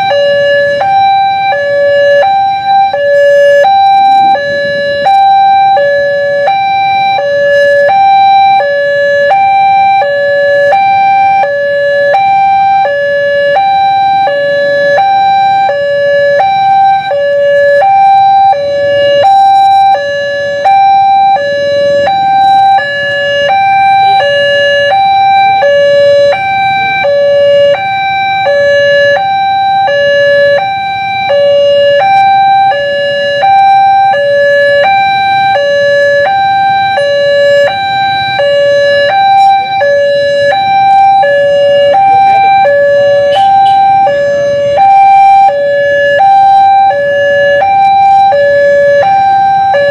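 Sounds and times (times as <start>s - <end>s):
level crossing two-tone alarm: 0.0s - 49.9s.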